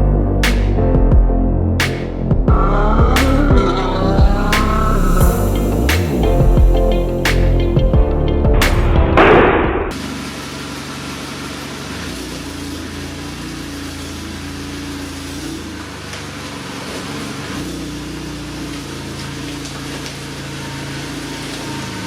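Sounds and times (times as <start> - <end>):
car engine and exhaust drone: 0.0 - 22.0.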